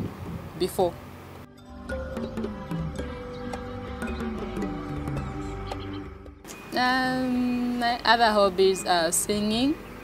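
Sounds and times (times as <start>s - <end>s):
soft background music: 1.4s - 10.0s.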